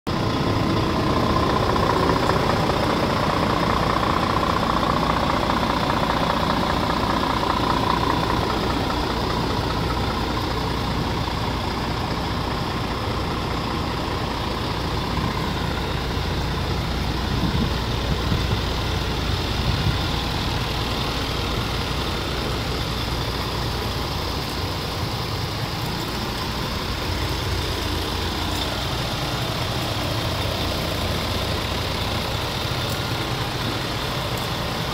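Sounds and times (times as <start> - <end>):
diesel truck idling: 0.1 - 34.9.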